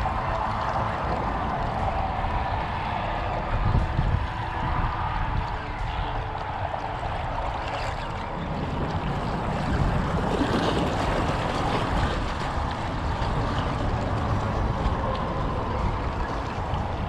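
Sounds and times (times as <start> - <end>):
waves washing against rocks: 0.0 - 17.0
wind rumbling on microphone: 0.0 - 17.0.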